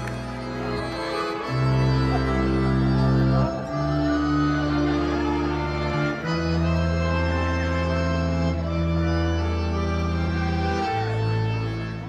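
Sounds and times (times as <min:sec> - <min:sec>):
reedy keyboard chords: 0:00.0 - 0:12.0.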